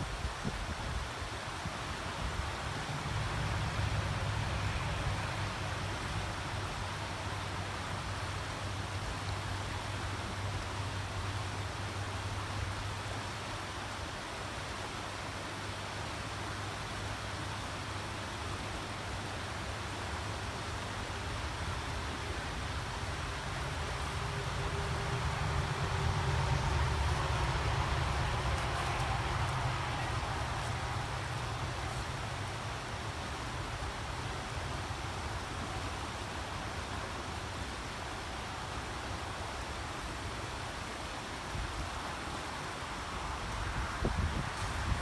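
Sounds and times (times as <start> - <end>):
creek water flowing: 0.0 - 45.0.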